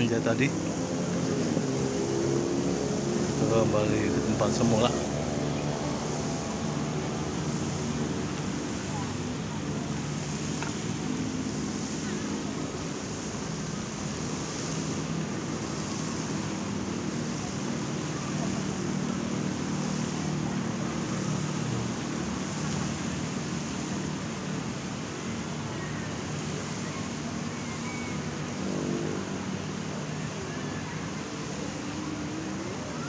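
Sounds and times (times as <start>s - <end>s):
murmur of voices: 0.0s - 33.0s
traffic hum: 0.0s - 33.0s.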